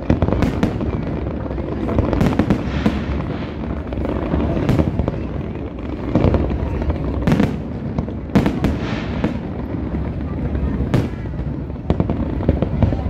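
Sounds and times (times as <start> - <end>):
continuous rumble: 0.0 - 13.0.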